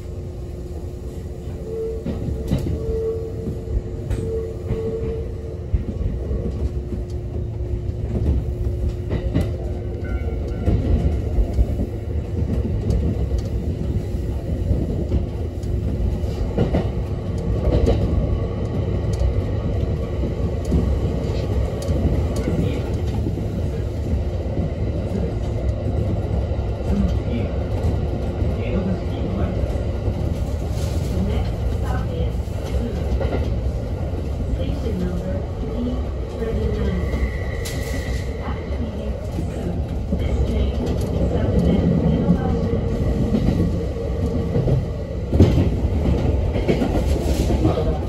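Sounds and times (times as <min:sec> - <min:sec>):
train rumbling: 0:00.0 - 0:48.0.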